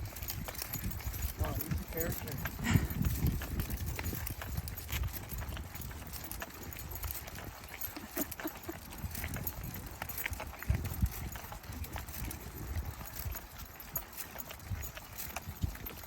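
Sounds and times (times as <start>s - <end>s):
footsteps crunching on a trail: 0.0s - 16.0s.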